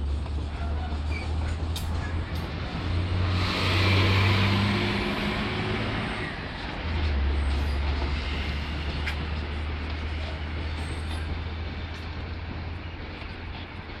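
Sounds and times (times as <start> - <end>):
freight train wagons rumbling: 0.0 - 14.0
road traffic: 0.0 - 14.0.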